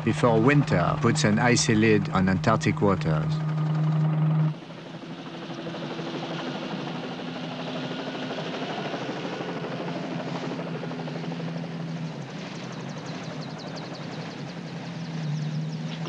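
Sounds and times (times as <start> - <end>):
helicopter flying: 0.0 - 16.0.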